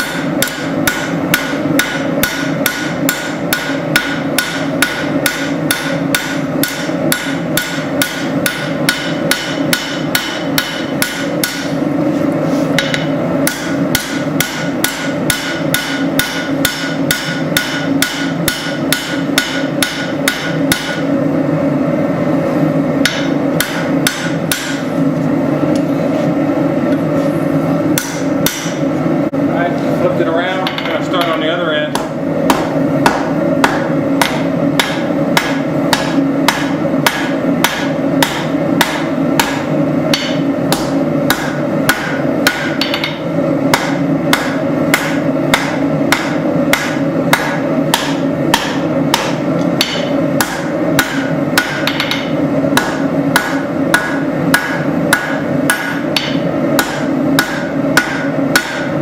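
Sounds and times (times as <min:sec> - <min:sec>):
hammer striking steel on anvil: 0:00.0 - 0:11.8, 0:12.7 - 0:21.2, 0:23.0 - 0:24.9, 0:27.9 - 0:28.8, 0:30.5 - 0:59.0.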